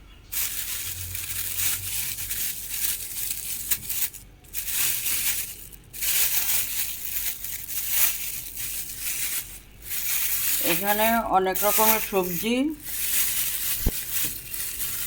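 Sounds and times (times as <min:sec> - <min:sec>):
shopping bags rustling: 0:00.3 - 0:15.0.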